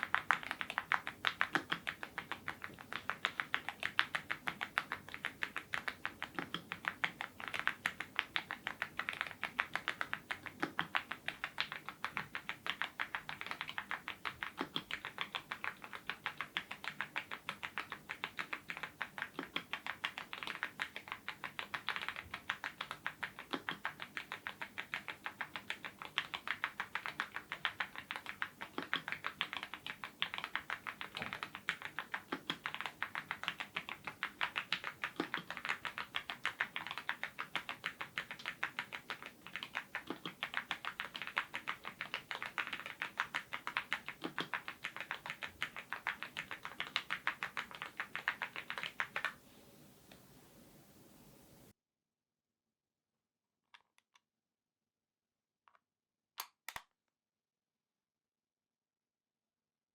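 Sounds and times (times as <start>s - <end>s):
mechanical keyboard typing: 0.0s - 49.4s.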